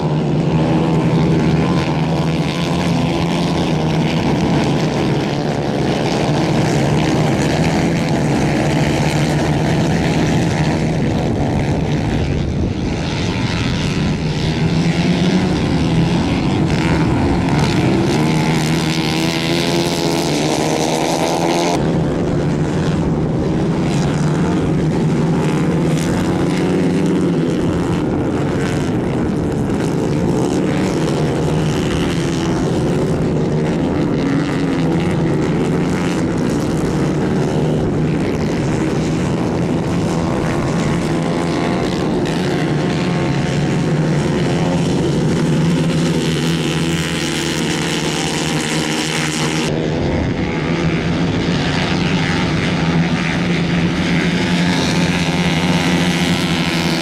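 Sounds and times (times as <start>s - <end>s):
racing kart engines buzzing: 0.0s - 57.0s.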